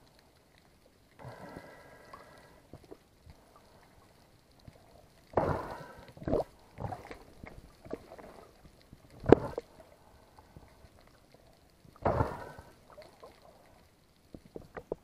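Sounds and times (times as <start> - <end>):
muffled underwater sloshing: 0.0 - 15.0.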